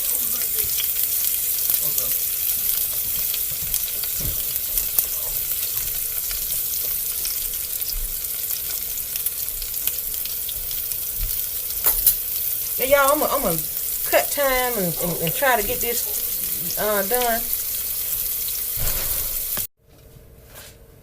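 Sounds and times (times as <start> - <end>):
oil sizzling in a skillet: 0.0 - 19.7.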